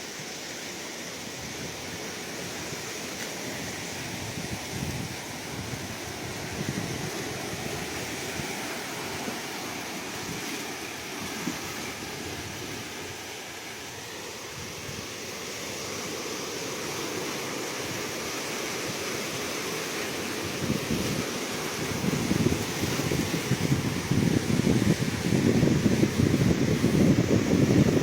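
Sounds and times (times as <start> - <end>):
ocean surf washing: 0.0 - 28.0.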